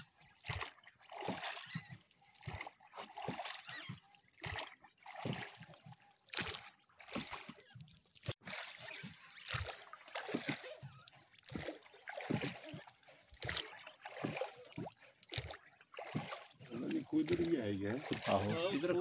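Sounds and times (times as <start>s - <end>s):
oars splashing in water: 0.0s - 19.0s
water dripping off oar: 0.0s - 19.0s.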